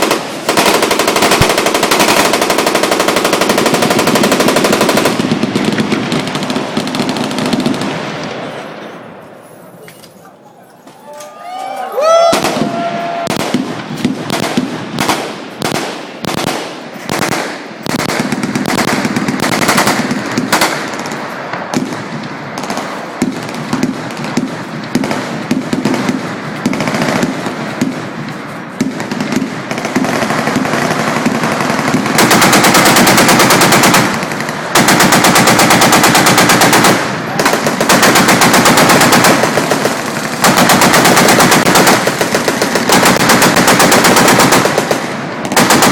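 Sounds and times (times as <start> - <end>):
automatic gunfire: 0.0 - 8.0, 12.3 - 28.1, 28.8 - 45.9.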